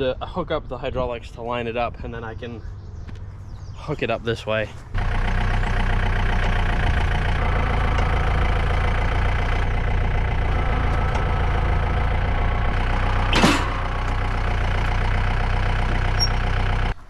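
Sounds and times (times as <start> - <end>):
tractor engine idling: 2.2 - 17.0.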